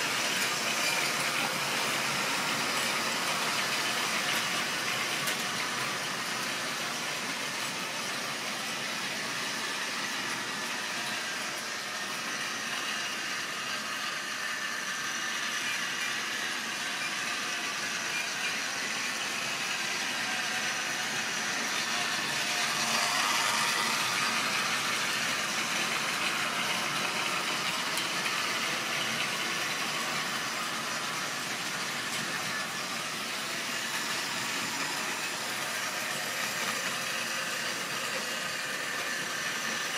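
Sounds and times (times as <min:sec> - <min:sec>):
wagons rolling over rails: 0:00.0 - 0:12.9, 0:15.7 - 0:39.9
small electric motor whirring: 0:00.0 - 0:39.9.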